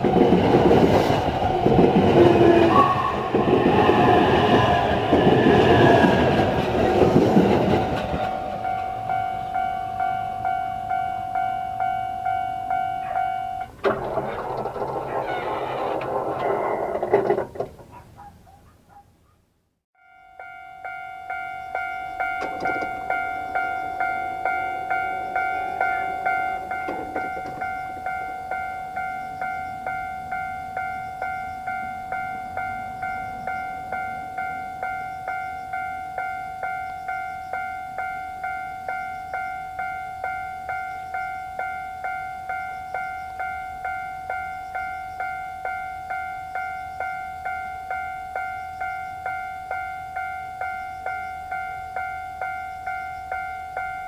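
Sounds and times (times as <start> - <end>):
level crossing warning bell: 0.0 - 18.5, 20.0 - 54.0.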